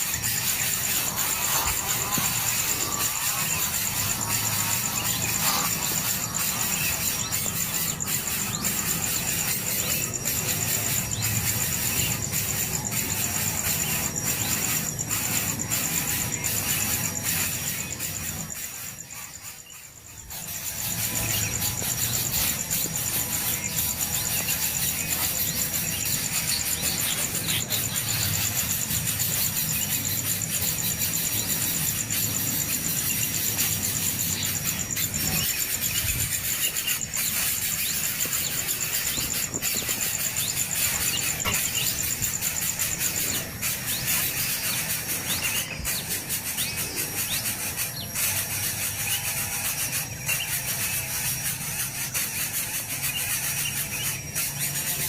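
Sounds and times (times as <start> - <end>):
nestlings cheeping: 0.0 - 55.0.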